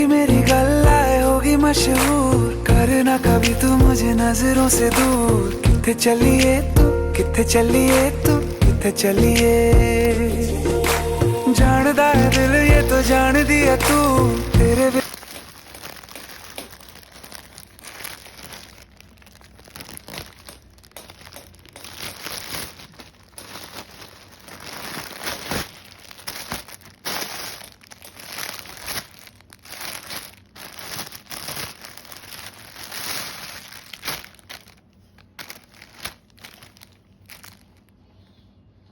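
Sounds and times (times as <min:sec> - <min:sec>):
packaging crinkling: 0:00.0 - 0:38.1.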